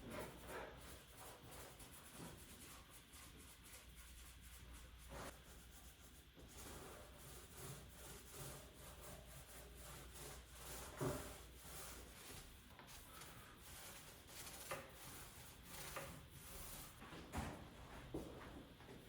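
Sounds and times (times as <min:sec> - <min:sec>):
brush rubbing on wood: 0:00.0 - 0:17.0.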